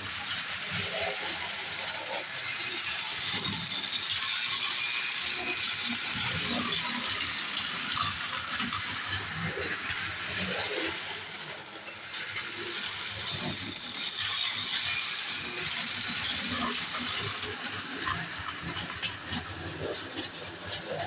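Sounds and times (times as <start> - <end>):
toy train wheels rattling on rails: 0.1 - 21.0.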